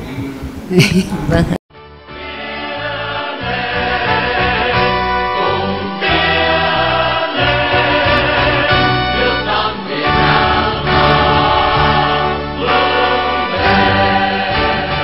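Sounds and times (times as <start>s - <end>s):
choir singing: 2.1s - 15.0s.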